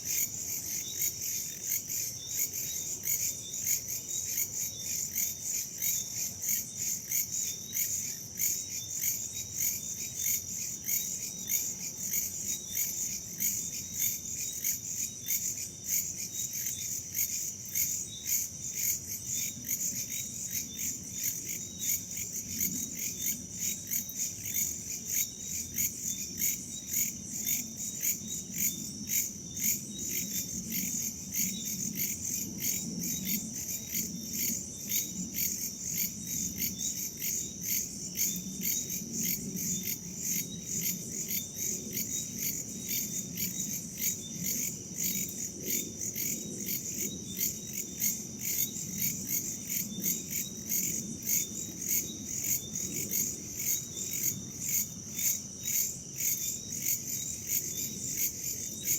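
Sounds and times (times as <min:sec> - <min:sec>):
crickets chirping: 0:00.0 - 0:58.9.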